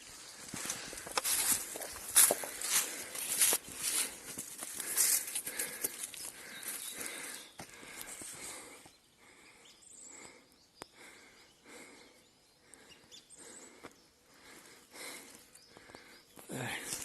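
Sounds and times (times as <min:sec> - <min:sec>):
birds trilling: 0:00.6 - 0:17.0.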